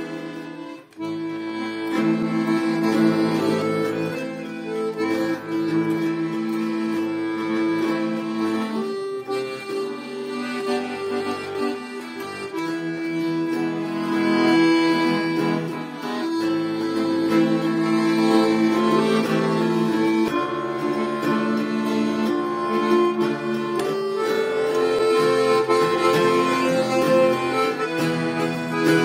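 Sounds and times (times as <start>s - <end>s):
acoustic guitar: 0.0s - 29.0s
button accordion chords: 0.0s - 29.0s.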